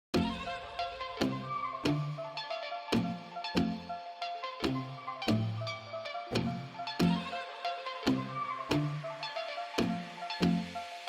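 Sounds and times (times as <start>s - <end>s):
electronic beat music: 0.2s - 11.0s.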